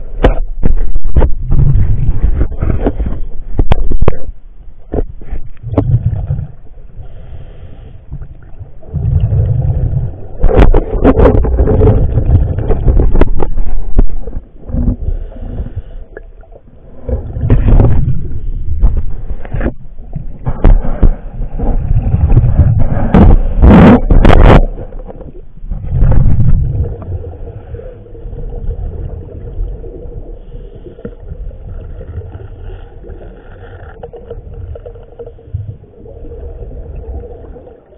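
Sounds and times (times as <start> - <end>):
diver's breath bubbles gurgling: 5.6 - 37.9.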